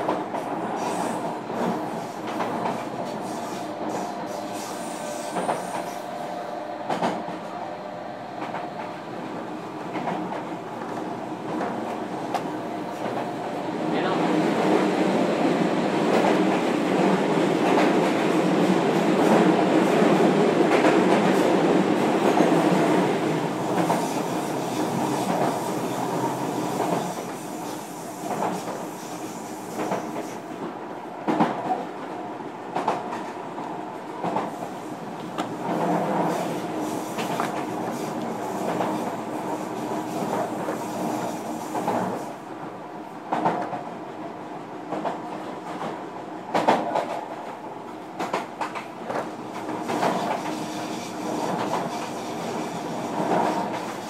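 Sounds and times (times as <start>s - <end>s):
train rumble and motor hum: 0.0s - 54.0s.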